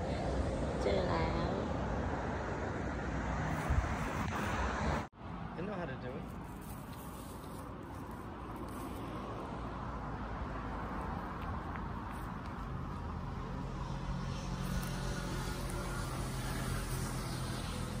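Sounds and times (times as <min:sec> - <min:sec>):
road traffic noise: 0:00.0 - 0:18.0
vehicle engine hum: 0:00.0 - 0:18.0.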